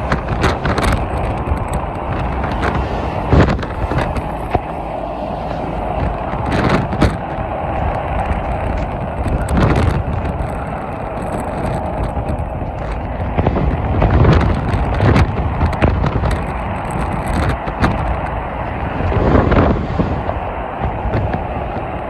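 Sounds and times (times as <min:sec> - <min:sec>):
freeway traffic rushing: 0:00.0 - 0:22.0.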